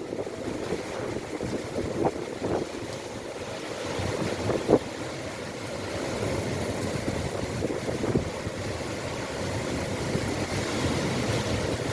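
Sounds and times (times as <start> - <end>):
heavy rain falling: 0.0 - 11.9
wind rumbling on microphone: 0.0 - 11.9.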